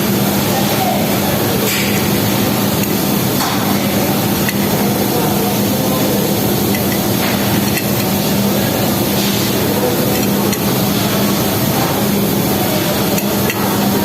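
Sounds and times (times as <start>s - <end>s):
steady loud hiss: 0.0s - 14.0s.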